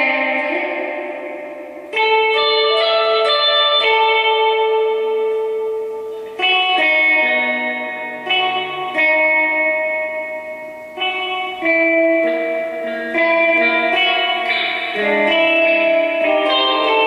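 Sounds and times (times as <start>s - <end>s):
clean electric guitar notes: 0.0s - 17.0s.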